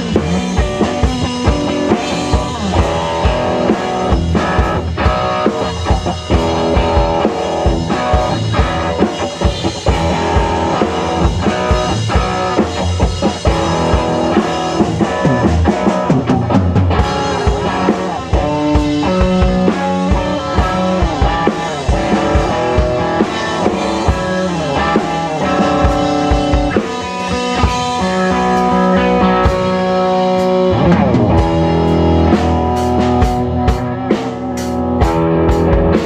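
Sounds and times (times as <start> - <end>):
drum kit playing: 0.0 - 36.0
electric guitar playing: 0.0 - 36.0.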